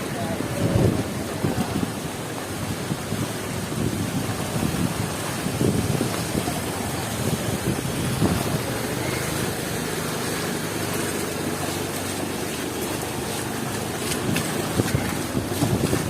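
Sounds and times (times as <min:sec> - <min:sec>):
heavy rain hissing: 0:00.0 - 0:16.0
street traffic: 0:00.0 - 0:16.0
wind buffeting microphone: 0:00.0 - 0:16.0.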